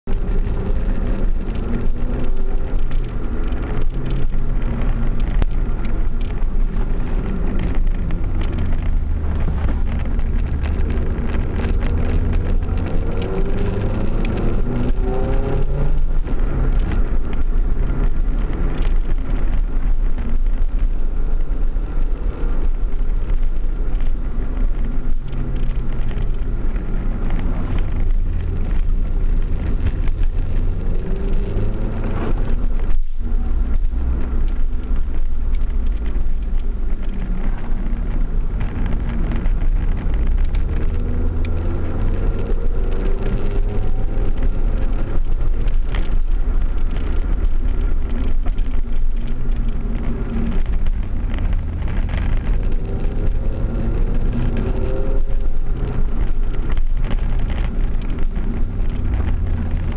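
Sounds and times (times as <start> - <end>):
car engine: 0.0 - 59.9
road noise inside car: 0.0 - 59.9.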